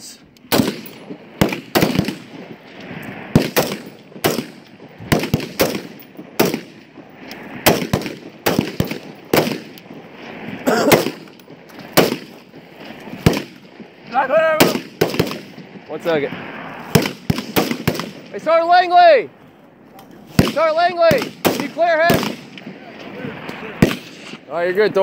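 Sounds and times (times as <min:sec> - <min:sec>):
rifle shots: 0:00.5 - 0:15.9, 0:16.8 - 0:18.5, 0:20.3 - 0:24.5.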